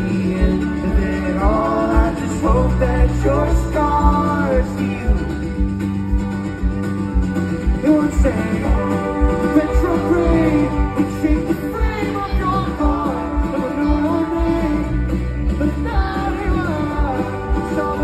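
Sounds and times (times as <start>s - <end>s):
man singing: 0.0s - 5.6s, 7.6s - 18.0s
strummed guitars: 0.0s - 18.0s.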